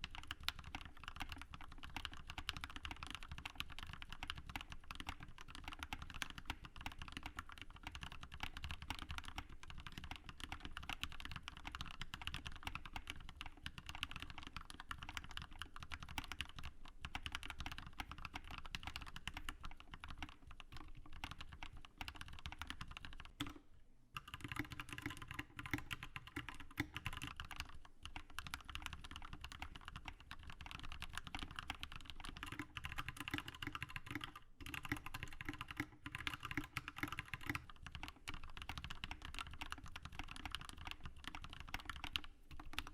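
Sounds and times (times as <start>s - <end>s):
mechanical keyboard typing: 0.0s - 23.6s, 24.2s - 42.9s.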